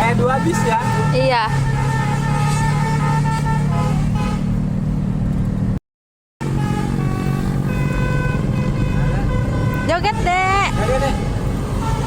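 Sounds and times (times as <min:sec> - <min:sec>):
diesel engine humming: 0:00.0 - 0:05.8, 0:06.4 - 0:12.0.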